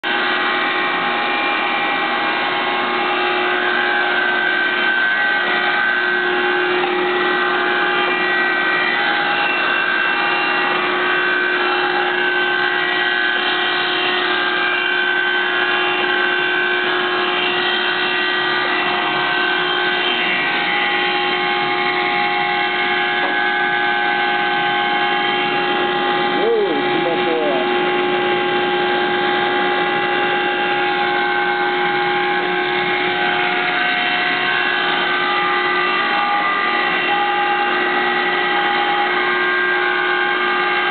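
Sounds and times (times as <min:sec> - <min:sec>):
mortiser motor humming idle: 0:00.0 - 0:40.9.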